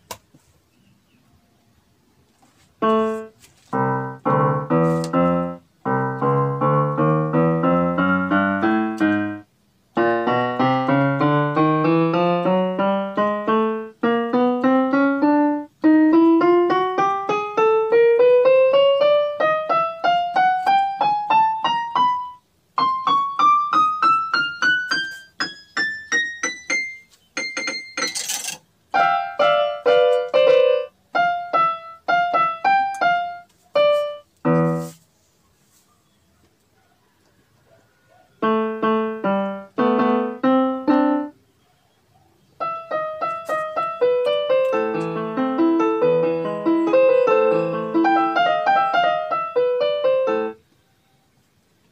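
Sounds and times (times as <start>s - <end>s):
electronic keyboard notes: 2.8s - 28.3s, 28.9s - 35.0s, 38.4s - 41.4s, 42.6s - 50.7s.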